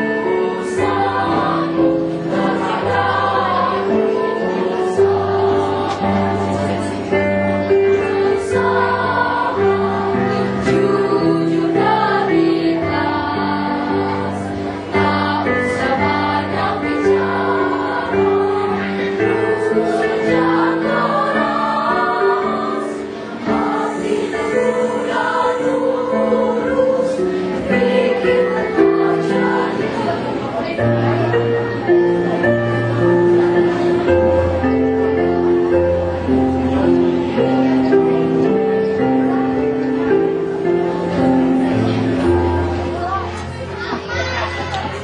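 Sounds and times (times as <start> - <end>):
choir singing: 0.0 - 45.0
instrumental accompaniment chords: 0.0 - 45.0.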